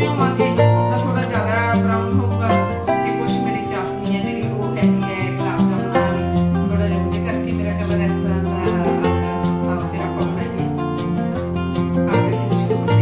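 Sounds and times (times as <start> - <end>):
instrumental music with plucked strings: 0.0 - 13.0.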